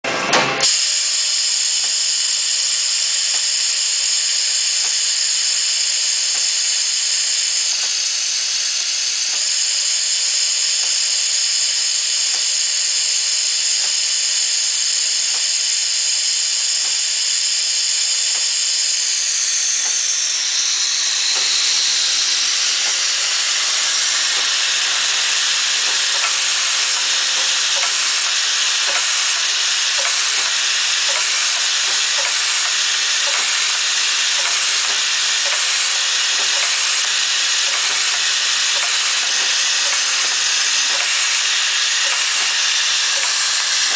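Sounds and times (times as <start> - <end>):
high machine whine: 0.0 - 43.9
machinery hissing: 0.1 - 43.9.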